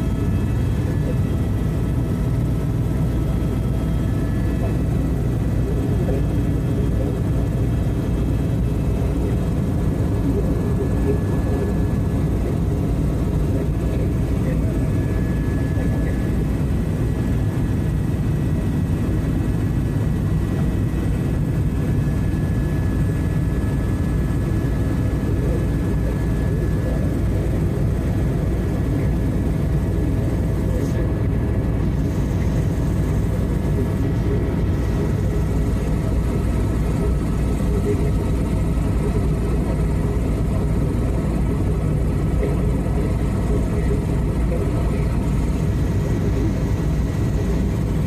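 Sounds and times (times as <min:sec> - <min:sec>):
helicopter engine and rotor rumble: 0:00.0 - 0:48.0.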